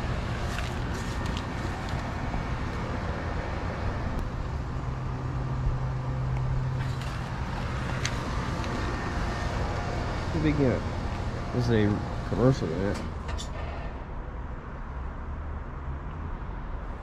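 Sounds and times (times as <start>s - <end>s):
air conditioner fan rushing: 0.0s - 14.1s.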